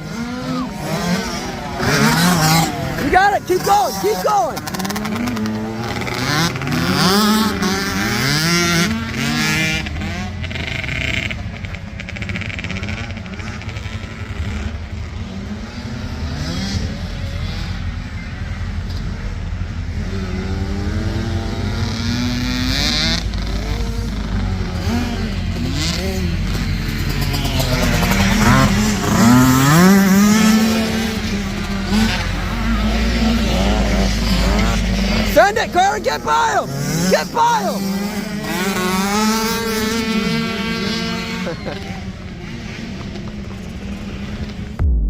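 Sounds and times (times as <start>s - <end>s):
motocross bike engines revving: 0.0s - 44.8s.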